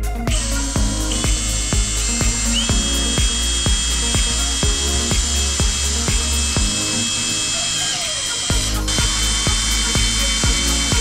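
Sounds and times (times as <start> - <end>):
background music with steady beat: 0.0 - 11.0
cordless drill driving screw: 0.3 - 11.0.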